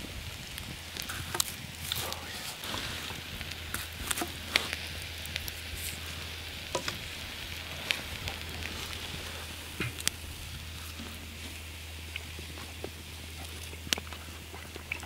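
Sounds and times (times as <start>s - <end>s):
campfire coals crackling: 0.0s - 15.0s.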